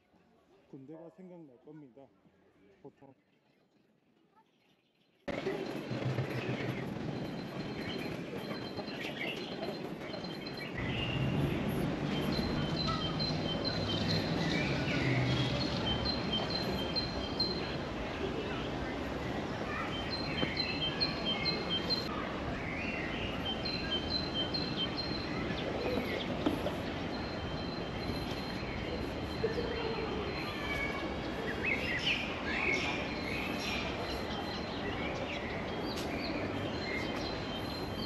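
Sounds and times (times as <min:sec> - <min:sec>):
small birds chirping: 0:06.4 - 0:38.0.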